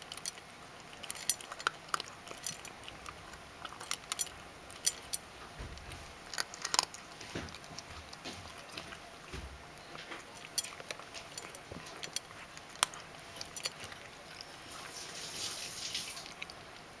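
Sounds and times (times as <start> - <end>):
cat crunching dry kibble: 0.0 - 17.0.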